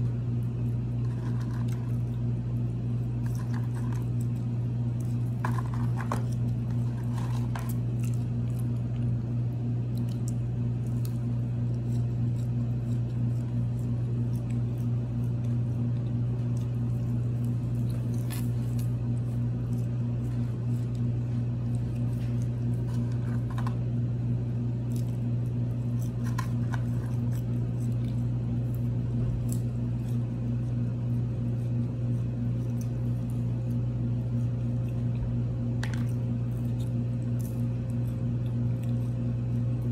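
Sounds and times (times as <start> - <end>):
steady low hum: 0.0 - 39.9
wet squishy chewing: 6.3 - 23.9, 24.5 - 39.9.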